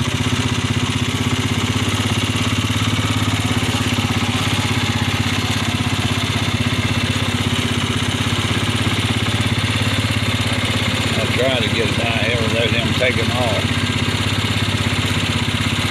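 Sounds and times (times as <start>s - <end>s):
vehicle engine idling: 0.0s - 15.9s.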